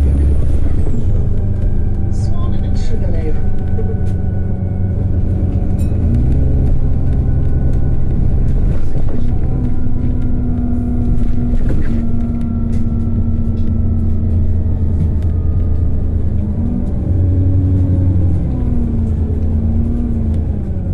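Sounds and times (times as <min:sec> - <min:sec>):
bus diesel engine rumble: 0:00.0 - 0:20.9
transmission whine: 0:00.0 - 0:20.9.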